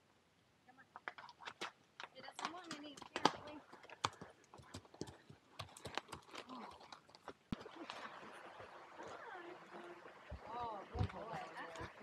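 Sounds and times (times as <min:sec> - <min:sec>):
faint steady hiss: 0:00.0 - 0:12.0
horse hooves clip-clopping: 0:01.0 - 0:12.0.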